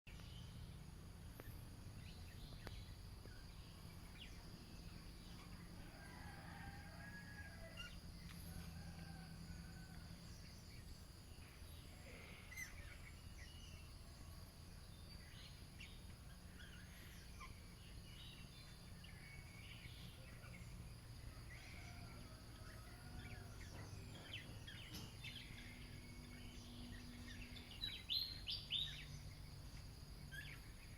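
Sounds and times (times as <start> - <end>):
steady low hum: 0.1 - 30.9.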